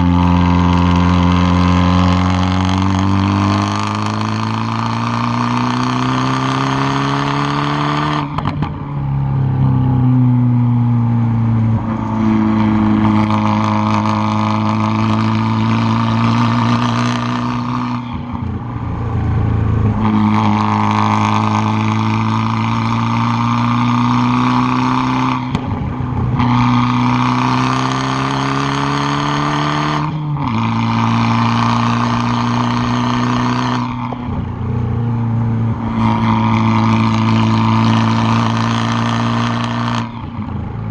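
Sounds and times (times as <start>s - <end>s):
car exhaust under hard load: 0.0s - 40.9s.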